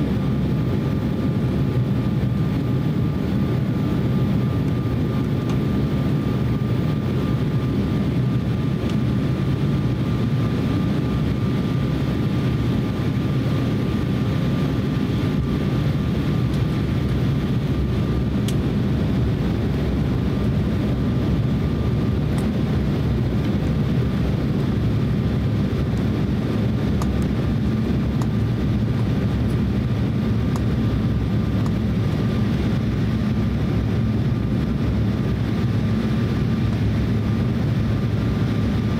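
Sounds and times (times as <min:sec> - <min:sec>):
airflow over fuselage: 0:00.0 - 0:38.9
jet engines rumbling: 0:00.0 - 0:38.9.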